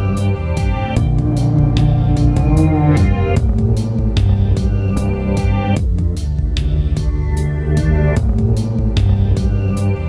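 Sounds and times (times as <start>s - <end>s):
background music with chords and bass: 0.0s - 10.0s.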